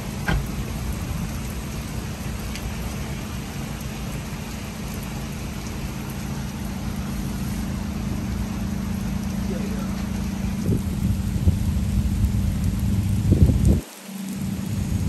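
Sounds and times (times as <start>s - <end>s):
heavy rain on street: 0.0s - 15.0s.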